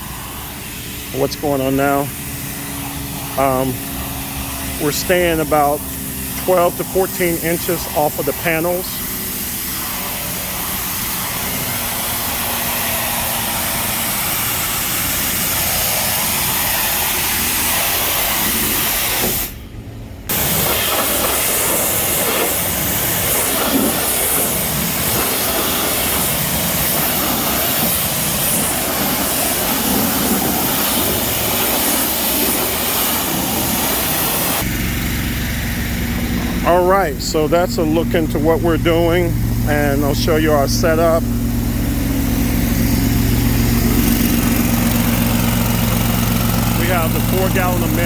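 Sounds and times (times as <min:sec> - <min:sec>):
pressure washer spraying wood: 0:00.0 - 0:19.7, 0:20.3 - 0:48.0.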